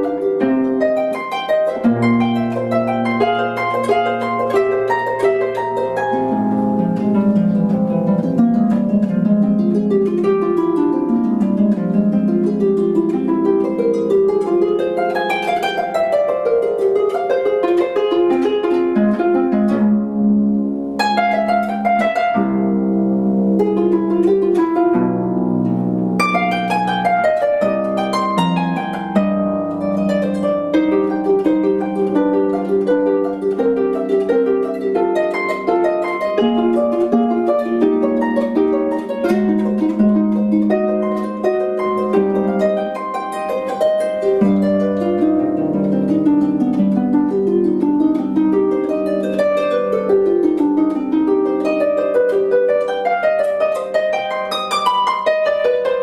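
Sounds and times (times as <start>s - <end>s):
harp playing classical piece: 0.0s - 56.0s.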